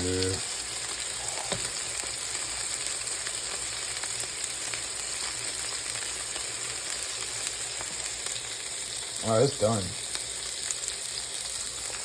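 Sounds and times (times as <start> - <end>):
burger patties sizzling in a pan: 0.0 - 12.0.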